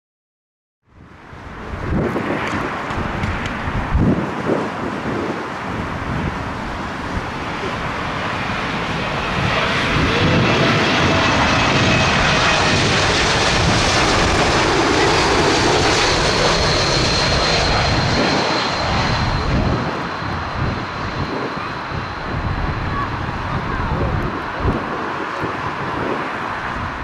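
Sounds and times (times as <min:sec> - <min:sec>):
jet airliner roar: 0:00.9 - 0:27.0.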